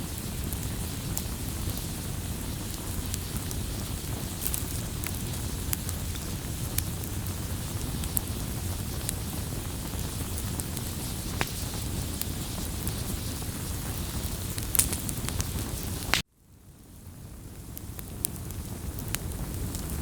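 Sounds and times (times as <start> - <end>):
rush of flames: 0.0 - 16.2
burning wood crackling and popping: 0.0 - 16.3, 16.9 - 20.0.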